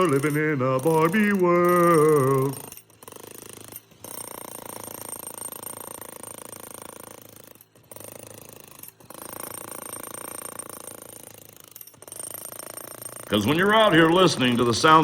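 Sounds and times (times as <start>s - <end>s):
jackhammer rattling: 0.0s - 15.0s.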